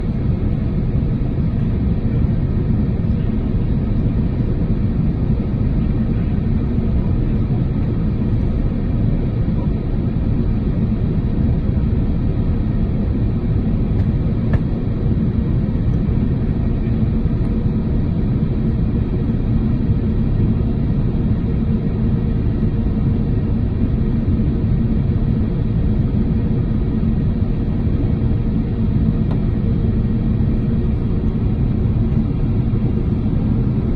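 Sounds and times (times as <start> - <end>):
airplane cabin rumble: 0.0 - 33.9.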